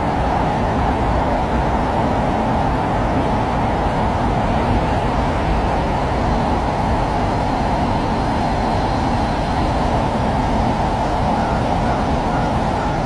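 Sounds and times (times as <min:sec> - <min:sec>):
rushing flood water: 0:00.0 - 0:13.0.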